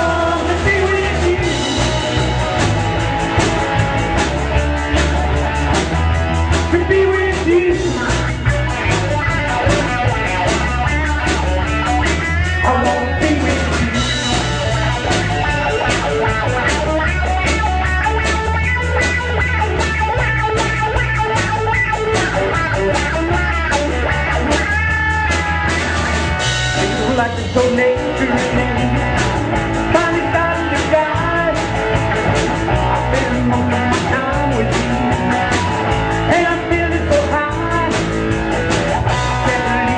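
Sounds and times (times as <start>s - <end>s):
bass line: 0.0s - 39.9s
drums: 0.0s - 39.9s
electric guitar: 0.0s - 39.9s.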